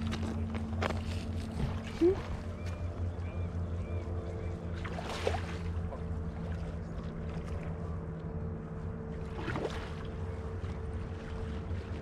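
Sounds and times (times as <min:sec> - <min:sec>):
distant motorboat engine droning: 0:00.0 - 0:12.0.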